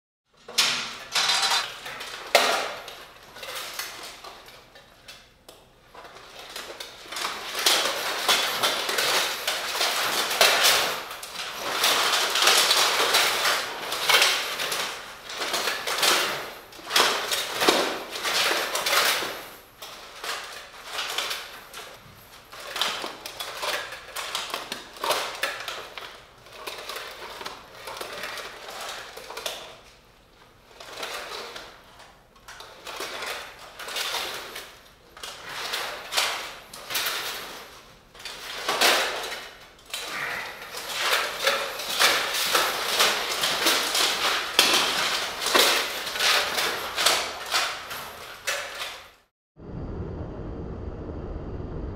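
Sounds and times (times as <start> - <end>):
plate armour and mail clinking: 0.4 - 5.1, 5.9 - 29.9, 30.6 - 49.3.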